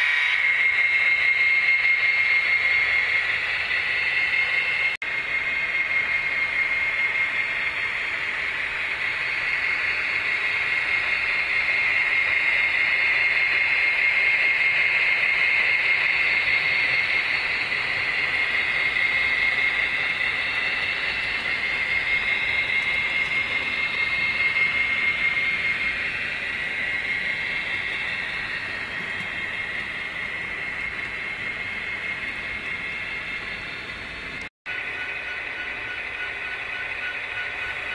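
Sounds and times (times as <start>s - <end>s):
model train running on track: 0.0s - 37.9s.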